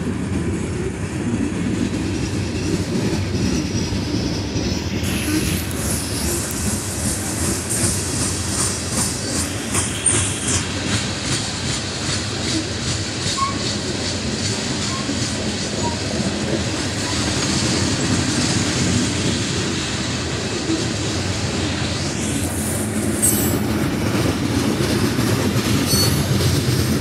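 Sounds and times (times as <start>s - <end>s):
clickety-clack over rail joints: 0.0s - 27.0s.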